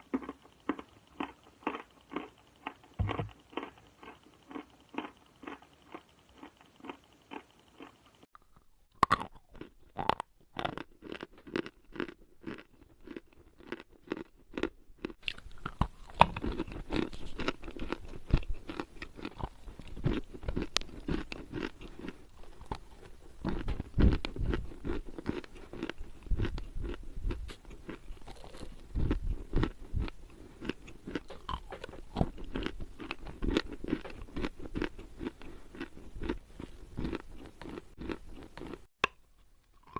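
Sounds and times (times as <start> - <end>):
chewing chalk crunches: 0.0 - 39.9.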